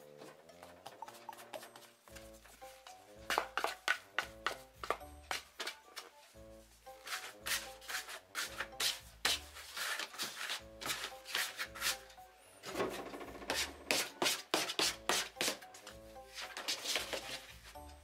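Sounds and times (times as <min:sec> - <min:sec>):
light background music: 0:00.0 - 0:18.0
hands kneading dough: 0:00.1 - 0:12.1, 0:13.4 - 0:18.0.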